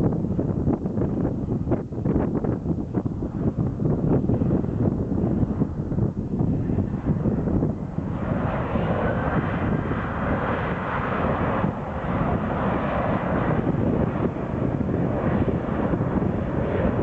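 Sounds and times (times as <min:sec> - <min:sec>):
airliner engine roar: 0:00.0 - 0:17.0
wind buffeting microphone: 0:00.0 - 0:17.0.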